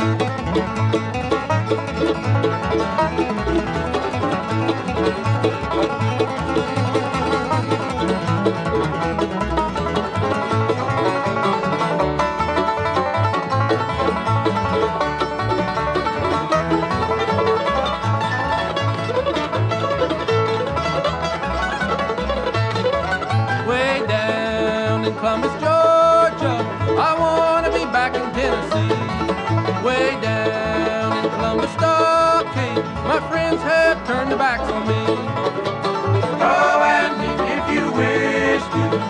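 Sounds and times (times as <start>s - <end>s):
bluegrass band music: 0.0s - 39.0s
rolling banjo: 0.0s - 39.0s.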